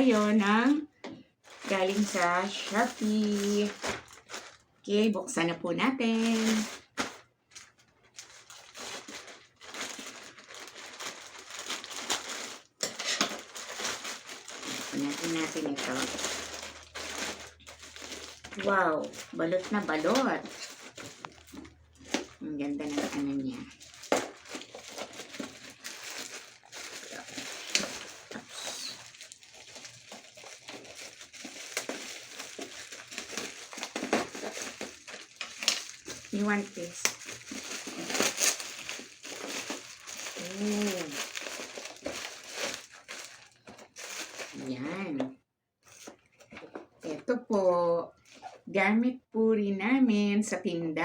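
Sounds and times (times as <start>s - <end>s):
packaging crinkling: 0.0s - 0.8s, 1.4s - 4.8s, 6.0s - 44.9s, 45.8s - 47.0s.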